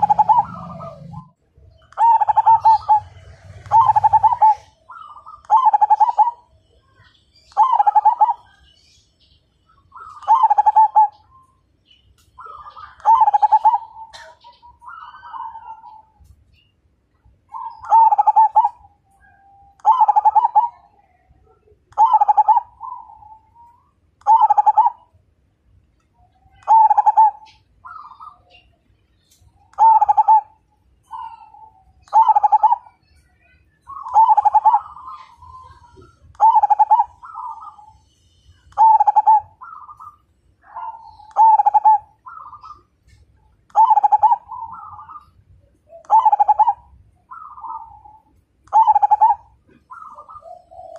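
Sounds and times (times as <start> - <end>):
dove cooing: 0.0 - 8.7, 9.9 - 11.4, 12.4 - 16.3, 17.5 - 25.1, 26.5 - 28.6, 29.6 - 33.0, 33.9 - 38.1, 38.7 - 50.9.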